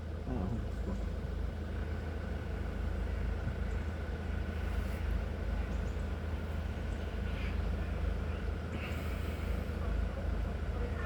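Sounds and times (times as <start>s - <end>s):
heavy engine rumbling: 0.0s - 11.0s.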